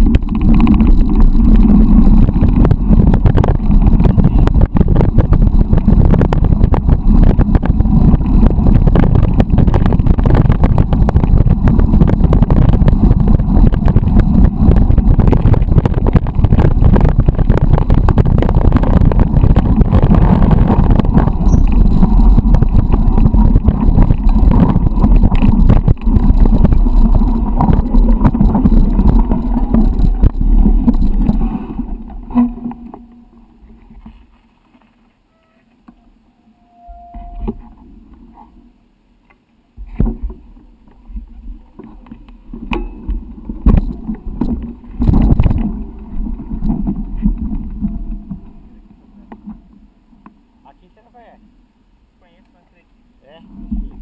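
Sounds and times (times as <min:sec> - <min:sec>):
bike knocks and rattles: 0:00.0 - 0:34.3, 0:39.8 - 0:49.7
wind and vibration rumble: 0:00.0 - 0:54.0.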